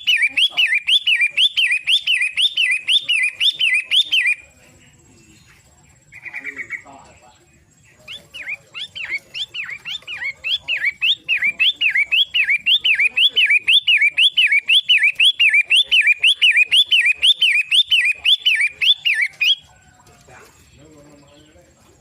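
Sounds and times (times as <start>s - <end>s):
shrike calling: 0.0s - 22.0s.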